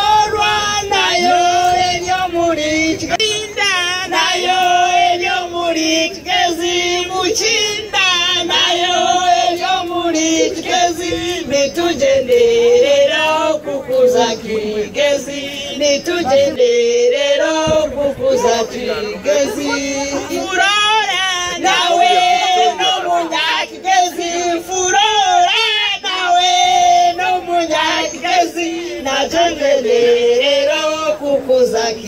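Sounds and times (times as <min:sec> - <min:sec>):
several voices singing: 0:00.0 - 0:32.0.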